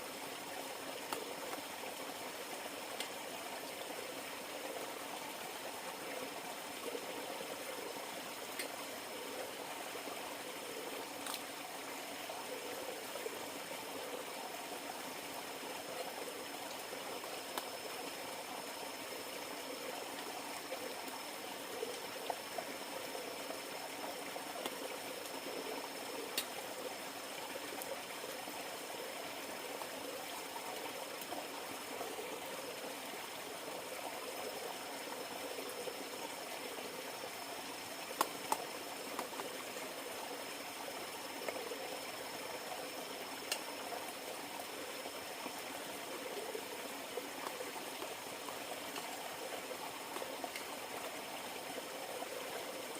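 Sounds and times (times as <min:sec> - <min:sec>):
river water babbling: 0:00.0 - 0:52.9.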